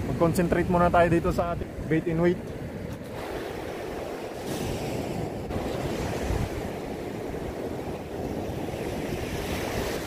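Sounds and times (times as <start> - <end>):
surf breaking on beach: 0.0 - 10.0
wind buffeting microphone: 0.0 - 10.0.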